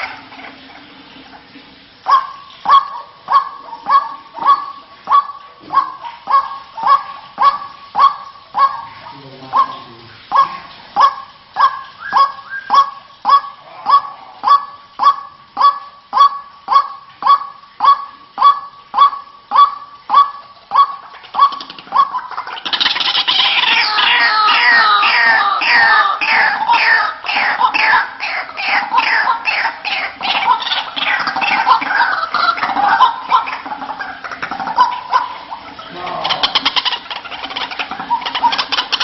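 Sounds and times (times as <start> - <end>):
waterhen harsh calls: 0.0 - 39.0.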